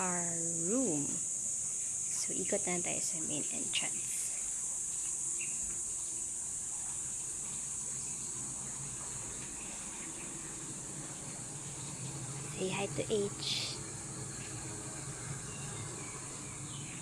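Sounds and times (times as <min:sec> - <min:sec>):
insects chirping chorus: 0:00.0 - 0:17.0.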